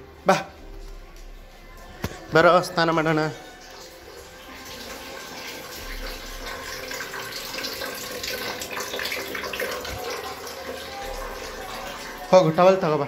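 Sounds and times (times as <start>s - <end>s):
water running from tap: 0.3s - 13.0s.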